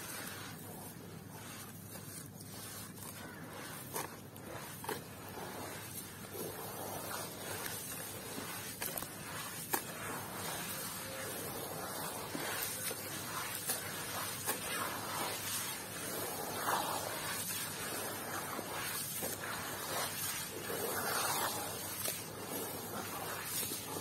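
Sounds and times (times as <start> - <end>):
hands squelching wet mud: 0.0 - 24.0.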